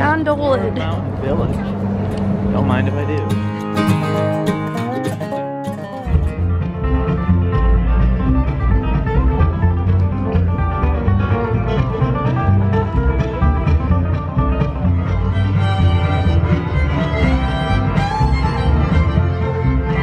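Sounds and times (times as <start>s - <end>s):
bass line: 0.0s - 20.0s
plucked guitar: 0.0s - 20.0s.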